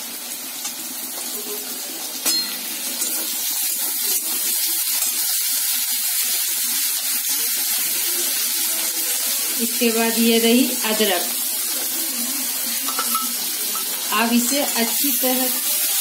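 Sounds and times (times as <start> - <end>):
garlic and chillies sizzling in oil: 0.0 - 16.0.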